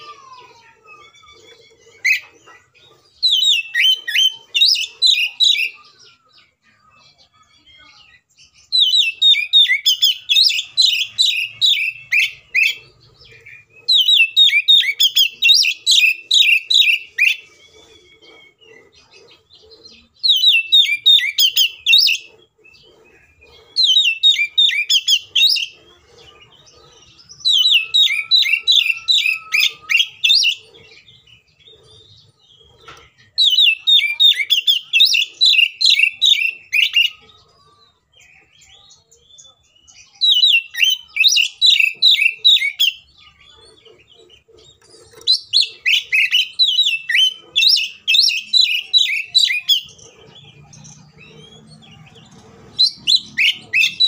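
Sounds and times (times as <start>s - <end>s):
bird singing sharp repeated notes: 0.0s - 54.0s.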